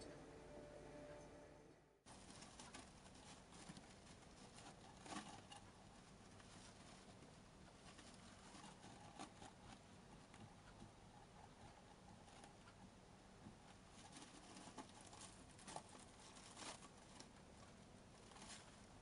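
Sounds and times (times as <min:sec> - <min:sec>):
hamster scratching in bedding: 0:02.1 - 0:12.8, 0:13.6 - 0:19.0.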